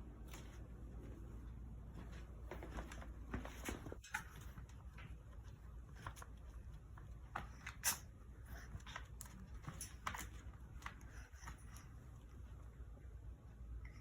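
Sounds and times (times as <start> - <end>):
faint low hum: 0.0 - 14.0
dog paws clicking and scuffing: 0.2 - 12.6.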